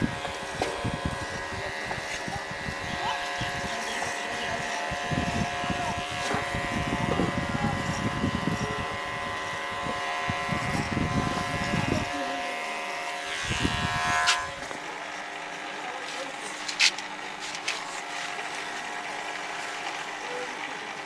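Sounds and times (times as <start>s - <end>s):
beard trimmer motor whine: 0.0s - 21.0s.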